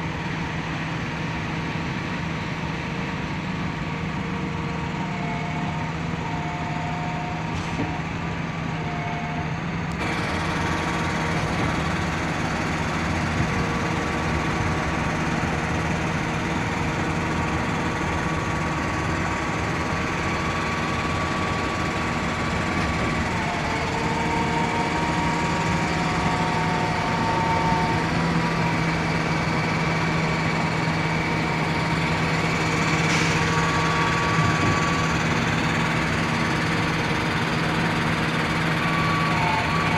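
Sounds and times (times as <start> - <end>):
diesel engine running steadily: 0.0 - 39.9
high-pitched whines: 4.8 - 39.9.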